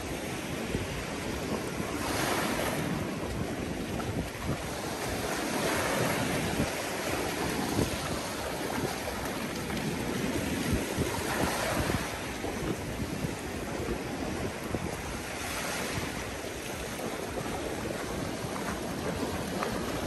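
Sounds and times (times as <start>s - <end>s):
small waves washing onto shore: 0.0s - 20.0s
wind buffeting microphone: 0.0s - 20.0s.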